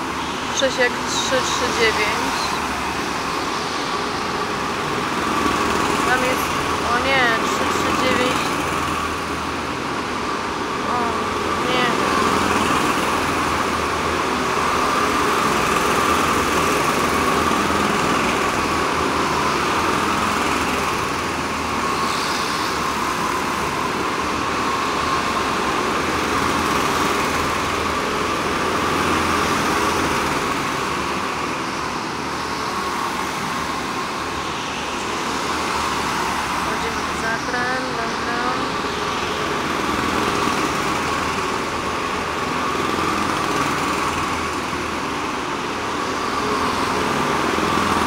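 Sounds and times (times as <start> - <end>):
go-kart engines droning: 0.0 - 48.0.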